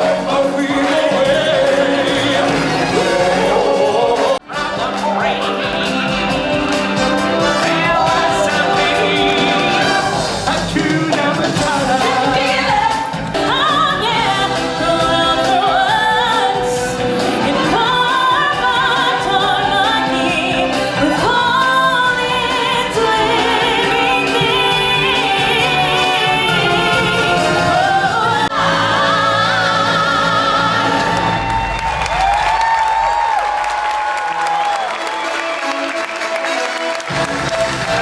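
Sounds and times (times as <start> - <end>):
several voices singing: 0.0 - 31.6
stage show music: 0.0 - 38.0.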